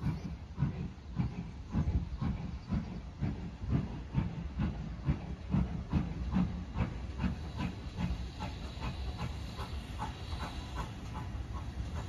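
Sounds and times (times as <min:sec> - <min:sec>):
steam hissing: 0:00.0 - 0:12.0
steam locomotive chuffing: 0:00.0 - 0:12.0.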